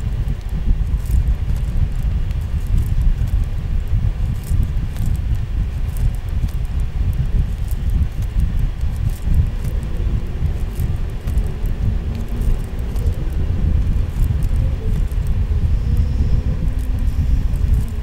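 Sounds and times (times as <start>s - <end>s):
faint ticks: 0.0s - 18.0s
low rumbling handling noise: 0.0s - 18.0s.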